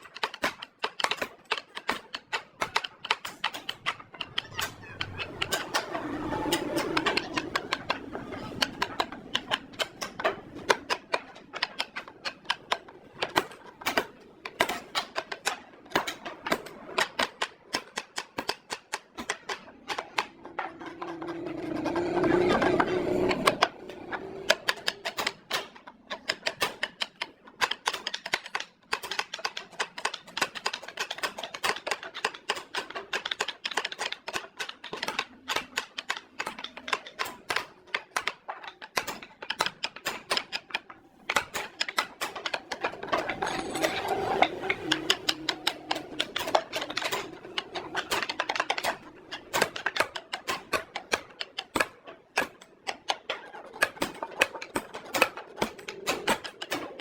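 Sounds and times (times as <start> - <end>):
rapid sharp taps and clicks: 0.0 - 21.8, 22.5 - 57.0.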